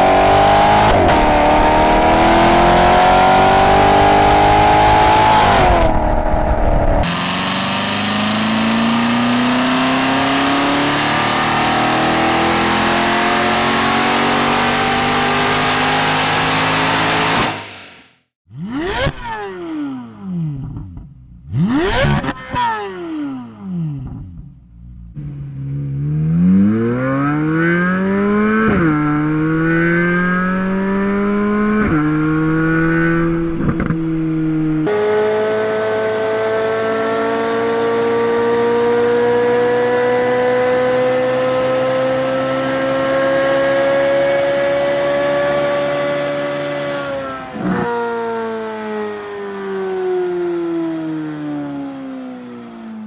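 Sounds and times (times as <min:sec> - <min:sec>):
car engine accelerating hard: 0:00.0 - 0:17.8, 0:21.4 - 0:24.4, 0:25.2 - 0:51.9.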